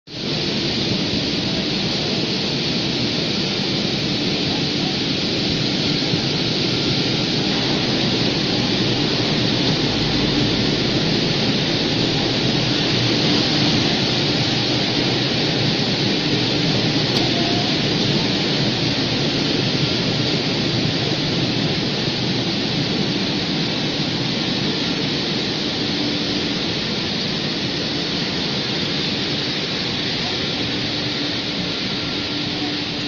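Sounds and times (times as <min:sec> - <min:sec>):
washing machine water rushing: 0:00.1 - 0:33.0.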